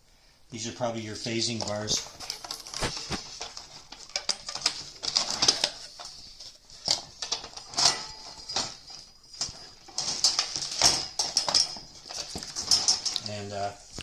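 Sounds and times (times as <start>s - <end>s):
cardboard packaging rustling: 1.1s - 14.0s.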